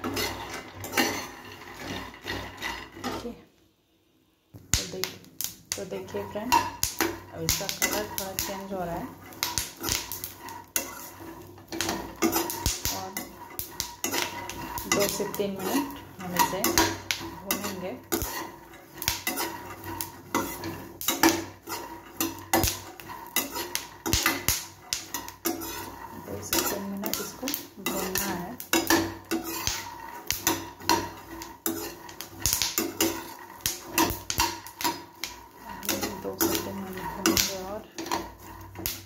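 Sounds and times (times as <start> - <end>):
metal spatula scraping a pan: 0.0 - 3.4, 4.7 - 39.0
peanuts clattering in a pan: 0.0 - 3.4, 4.6 - 39.0.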